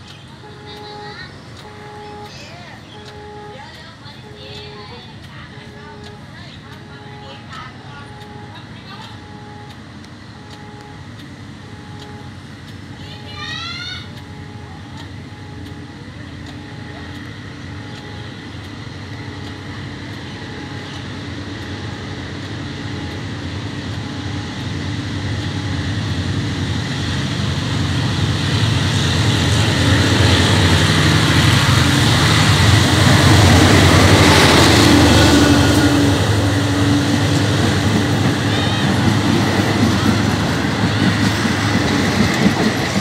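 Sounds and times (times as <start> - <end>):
diesel locomotive engine passing: 0.0 - 43.0
train coaches rumbling on rails: 0.0 - 43.0.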